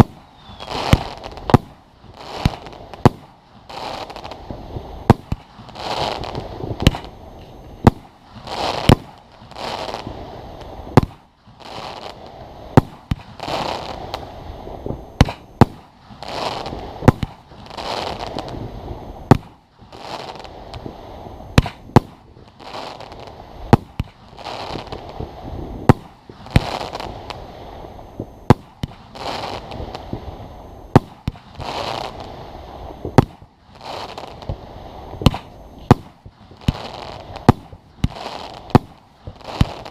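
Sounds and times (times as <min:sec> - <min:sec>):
firework bangs: 0:00.0 - 0:39.9.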